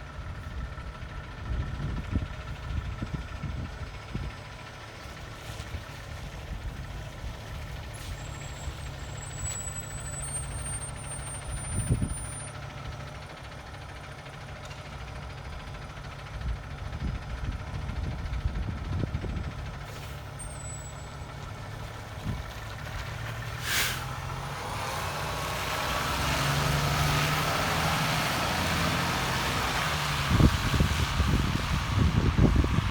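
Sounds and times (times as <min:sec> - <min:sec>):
diesel engine rumbling: 0:00.0 - 0:32.9.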